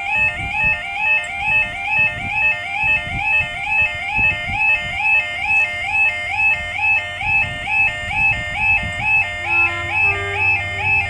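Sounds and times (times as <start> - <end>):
level crossing yodel alarm: 0.0 - 11.0.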